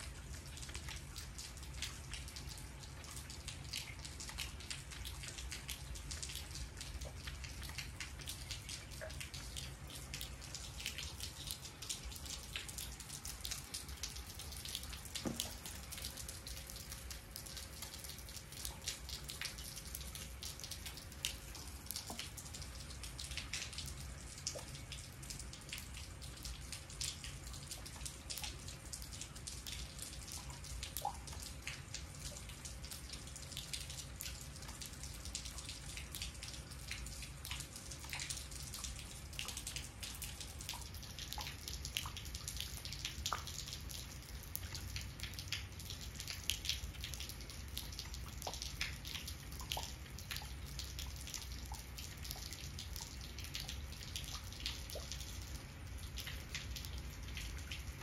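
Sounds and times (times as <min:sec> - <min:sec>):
rain pattering on wet concrete: 0:00.0 - 0:58.0.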